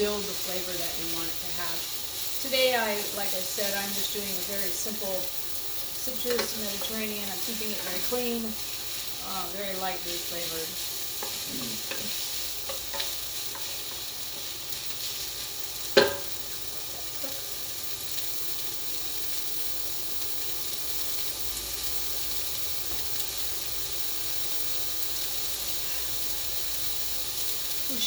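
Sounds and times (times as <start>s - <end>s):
noodles sizzling in a hot pan: 0.0s - 28.0s.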